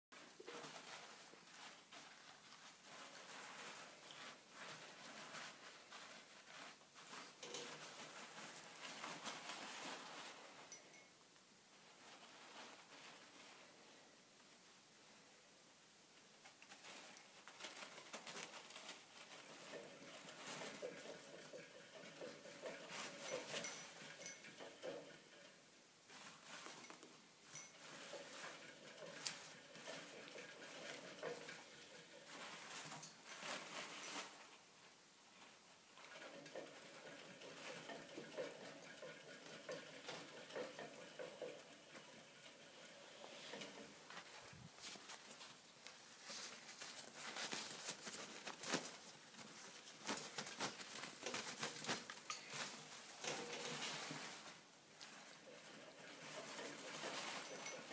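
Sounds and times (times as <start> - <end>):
small animal rustling paper and hay: 0.2 - 10.8, 11.7 - 14.0, 16.4 - 25.0, 26.1 - 41.3, 42.0 - 57.9.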